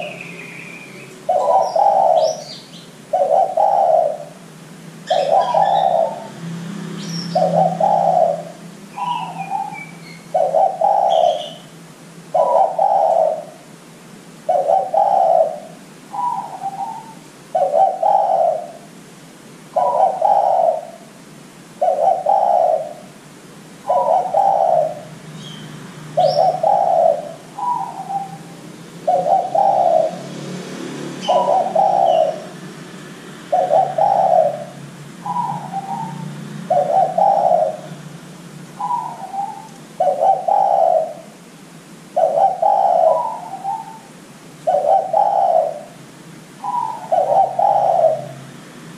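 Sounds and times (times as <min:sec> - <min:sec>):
small birds chirping: 0:00.0 - 0:04.4, 0:05.0 - 0:13.7, 0:14.4 - 0:19.0, 0:19.7 - 0:21.2, 0:21.8 - 0:23.2, 0:23.8 - 0:30.4, 0:31.1 - 0:32.7, 0:33.3 - 0:41.4, 0:42.1 - 0:48.5
dove cooing: 0:00.0 - 0:06.4, 0:07.0 - 0:13.8, 0:14.4 - 0:19.0, 0:19.7 - 0:21.2, 0:21.8 - 0:23.2, 0:23.8 - 0:32.7, 0:33.4 - 0:38.1, 0:38.7 - 0:41.4, 0:42.1 - 0:46.0, 0:46.6 - 0:48.6.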